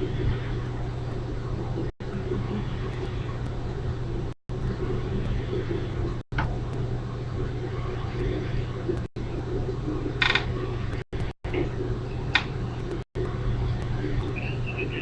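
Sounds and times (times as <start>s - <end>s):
buzzing hum and noise: 0.0s - 15.0s.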